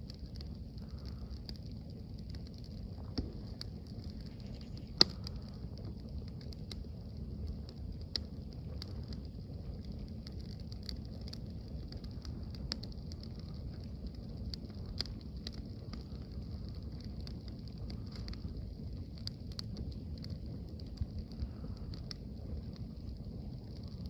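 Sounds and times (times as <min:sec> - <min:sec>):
burning wood popping: 0:00.0 - 0:24.0
campfire crackling: 0:00.0 - 0:24.0.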